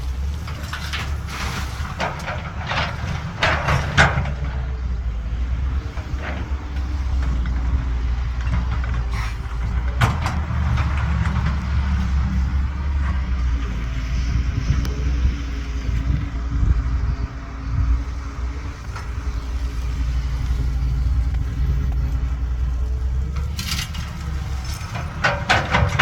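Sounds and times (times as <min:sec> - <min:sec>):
heavy diesel machinery running: 0:00.0 - 0:26.0.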